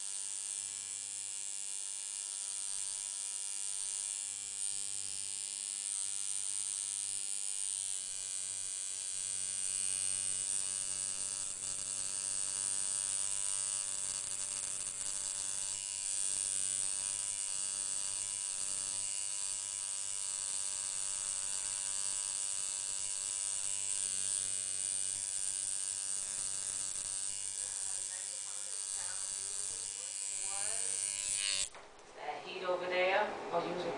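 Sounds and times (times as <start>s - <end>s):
steady electric buzz: 0.0s - 32.0s.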